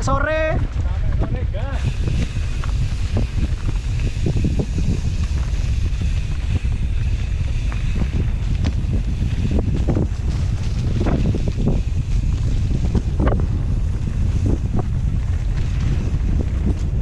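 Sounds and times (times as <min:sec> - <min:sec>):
mountain bike rumble: 0:00.0 - 0:17.0
wind buffeting microphone: 0:00.0 - 0:17.0
bike knocks and rattles: 0:00.6 - 0:17.0.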